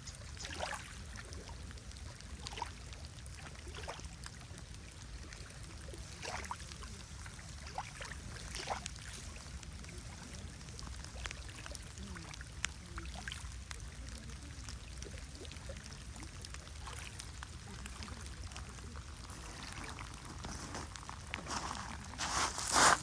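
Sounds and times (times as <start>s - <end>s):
small drips and splashes: 0.0s - 22.3s
water lapping and splashing: 0.0s - 23.0s.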